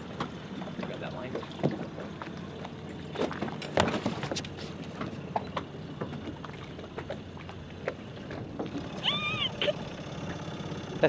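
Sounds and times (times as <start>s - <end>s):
knocks and clunks of dinghy: 0.0s - 11.0s
low motor hum: 0.0s - 11.0s.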